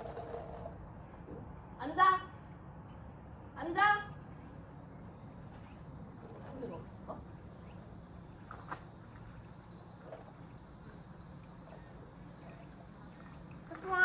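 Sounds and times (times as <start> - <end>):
cicadas chirring: 0.0 - 14.0.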